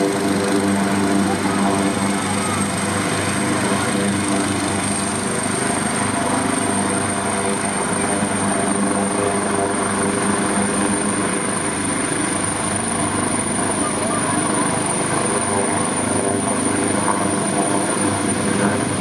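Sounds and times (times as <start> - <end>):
helicopter engine and rotor hum: 0.0 - 19.0
helicopter turbine whine: 0.0 - 19.0.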